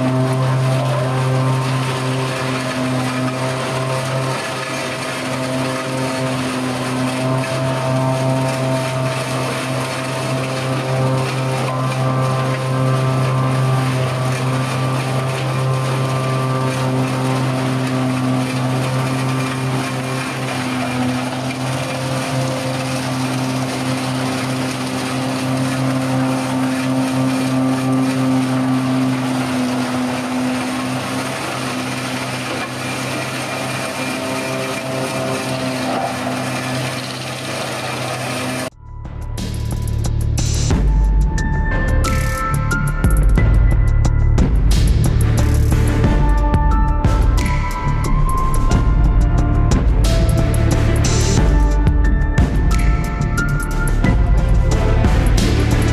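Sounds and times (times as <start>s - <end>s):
diesel tractor engine under load: 0.0s - 55.9s.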